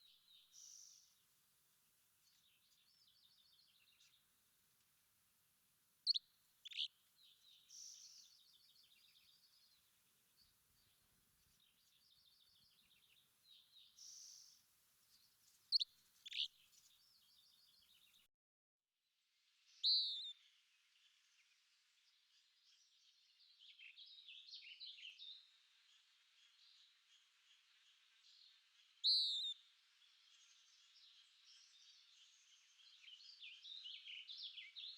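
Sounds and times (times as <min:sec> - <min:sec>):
songbirds chirping: 0:00.0 - 0:18.3, 0:19.7 - 0:34.9.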